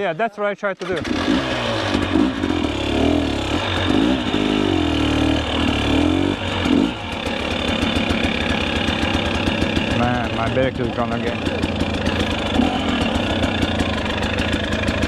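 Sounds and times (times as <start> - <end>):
dirt bike engine revving: 0.8 - 15.0.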